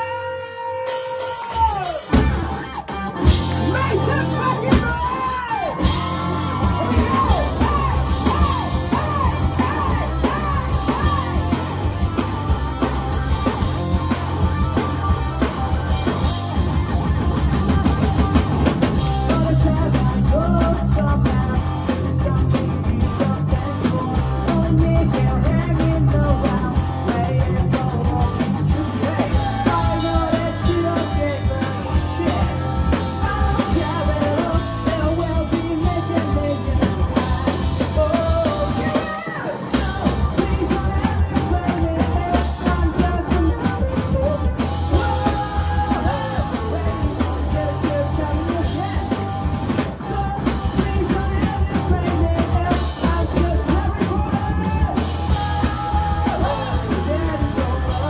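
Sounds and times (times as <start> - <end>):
person singing and shouting: 0.0 - 58.0
rock band playing: 0.0 - 58.0.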